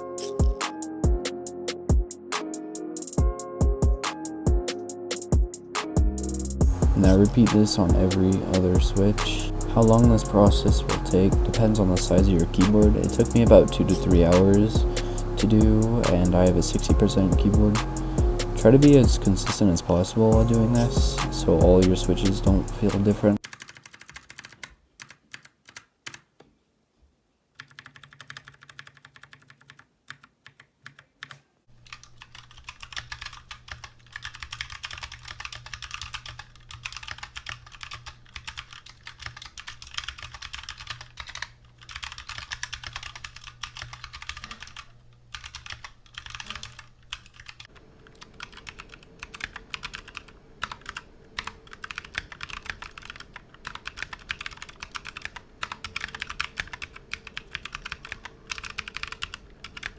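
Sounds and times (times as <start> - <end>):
fast typing on mechanical keyboard: 6.9 - 17.9, 20.3 - 26.3, 27.6 - 59.9.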